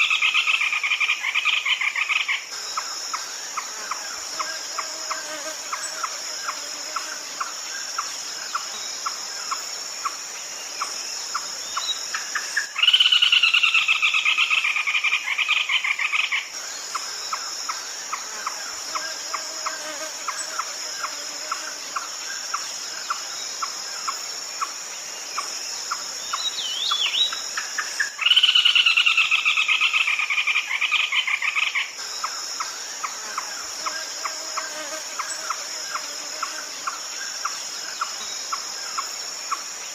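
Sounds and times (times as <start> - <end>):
bird pulsed calls: 0.0 - 39.7
high insect drone: 0.0 - 39.9.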